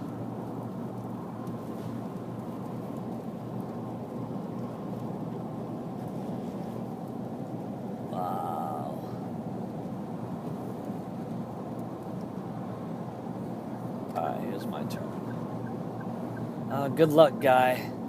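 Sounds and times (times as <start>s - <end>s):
car interior engine and tyre drone: 0.0s - 18.0s
rushing wind: 0.0s - 18.0s.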